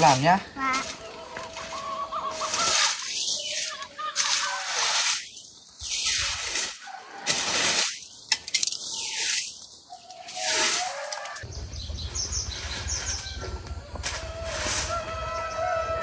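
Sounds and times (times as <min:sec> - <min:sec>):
broom sweeping: 0:00.0 - 0:11.4, 0:12.1 - 0:15.3.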